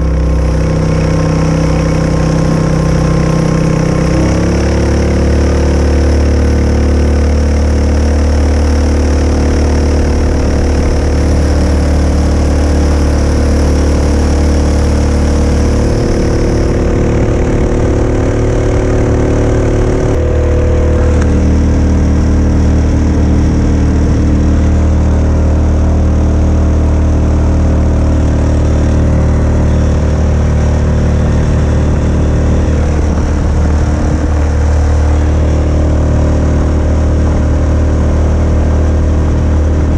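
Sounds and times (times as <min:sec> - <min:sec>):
kayak engine running: 0:00.0 - 0:39.9.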